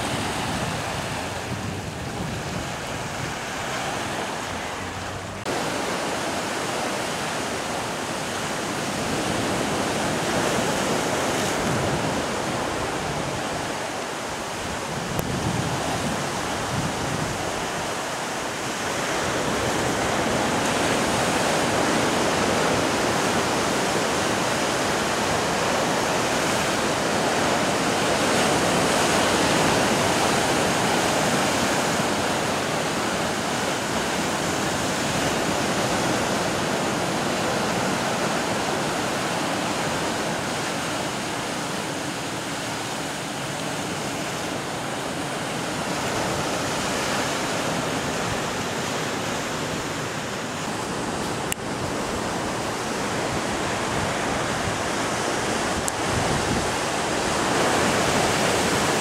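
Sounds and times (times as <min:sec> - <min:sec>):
surf breaking on rocky shore: 0:00.0 - 0:59.0.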